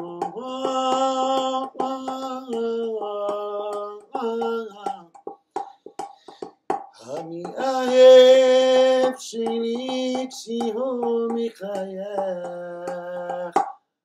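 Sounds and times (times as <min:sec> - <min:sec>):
man singing slow melody: 0:00.0 - 0:05.2, 0:07.0 - 0:13.6
fingers tapping metal pot: 0:00.0 - 0:13.8.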